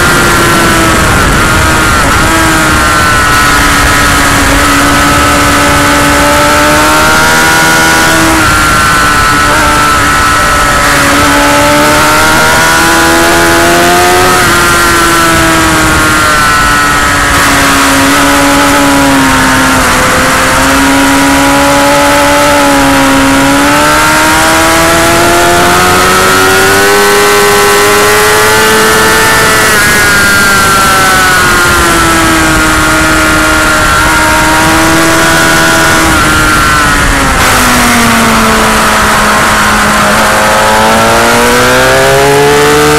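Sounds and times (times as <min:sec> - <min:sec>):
motorcycle engine racing: 0:00.0 - 0:42.9.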